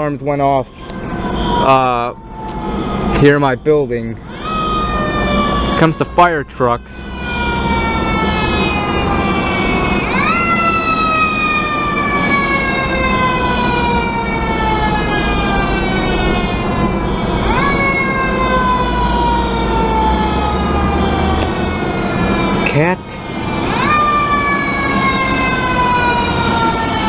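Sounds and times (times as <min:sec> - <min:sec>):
fire truck siren: 0:00.0 - 0:27.0.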